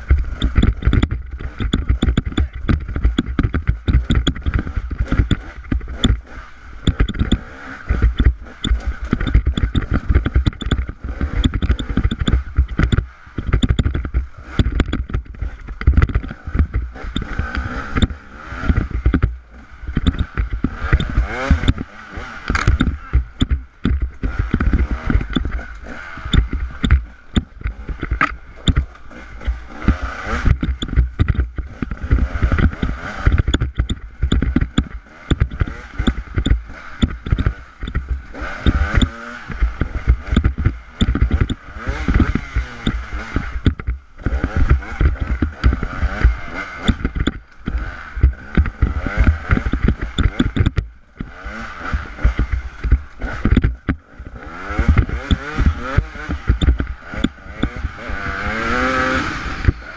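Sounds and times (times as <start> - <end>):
dirt bike engine revving: 0.0 - 59.9
knocks and clatters from bumpy ground: 0.0 - 59.9.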